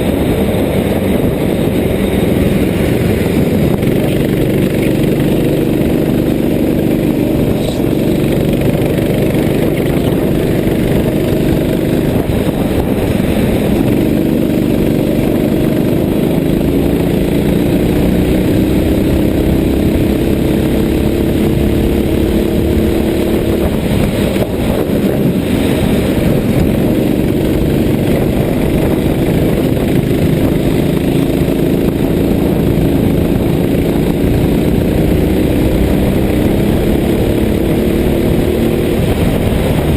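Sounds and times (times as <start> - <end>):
road and rain noise: 0.0 - 39.9
vehicle engine running: 0.0 - 39.9.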